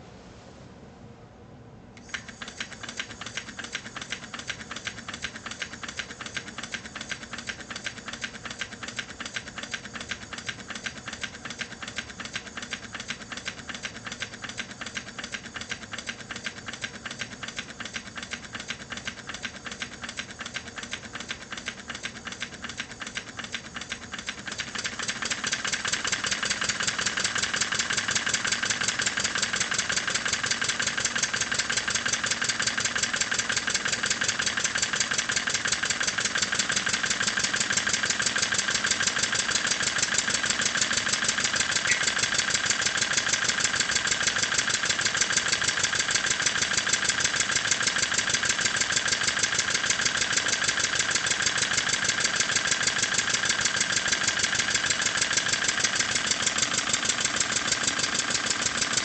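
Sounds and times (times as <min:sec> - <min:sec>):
steam engine chuffing: 0:02.2 - 0:59.0.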